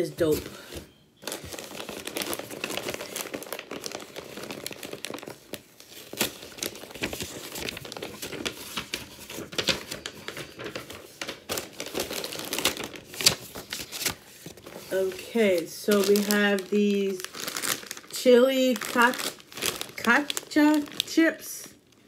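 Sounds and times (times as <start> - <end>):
packaging crinkling and rustling: 0.2 - 22.0.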